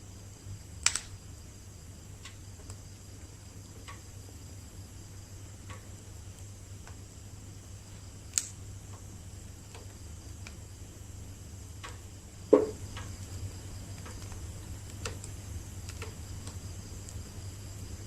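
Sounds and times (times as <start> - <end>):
bonfire crackling and popping: 0.1 - 18.0.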